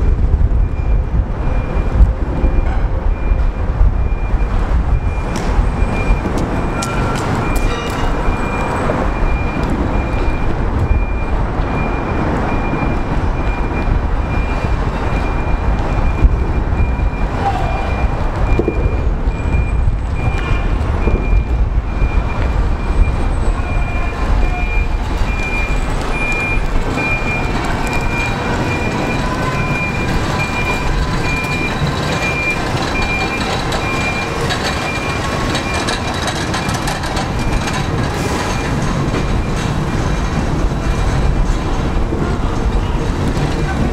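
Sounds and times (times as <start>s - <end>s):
engine low rumble: 0.0s - 43.9s
rail cars rolling on rails: 0.0s - 43.9s
high warning beeper: 0.6s - 37.7s.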